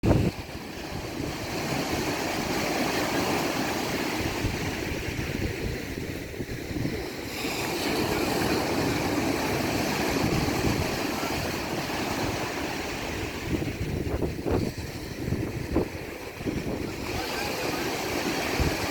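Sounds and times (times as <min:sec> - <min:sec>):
waves breaking on shore: 0:00.0 - 0:18.9
wind buffeting microphone: 0:00.0 - 0:18.9.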